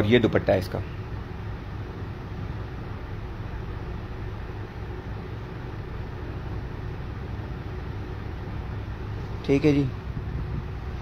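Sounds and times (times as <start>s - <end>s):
low hum: 0.8s - 11.0s.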